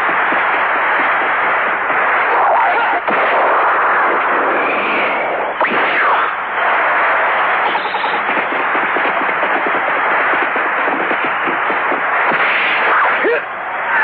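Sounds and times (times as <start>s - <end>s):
stadium crowd roar: 0.0s - 14.0s.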